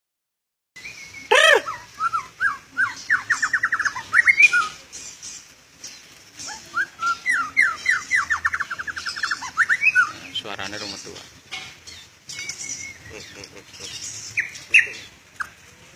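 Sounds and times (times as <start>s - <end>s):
bird singing trills: 0.8s - 15.6s.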